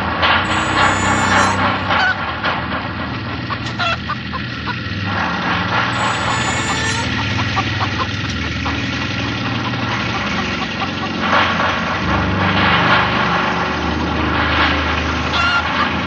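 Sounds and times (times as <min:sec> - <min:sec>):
engine running unevenly: 0:00.0 - 0:16.0.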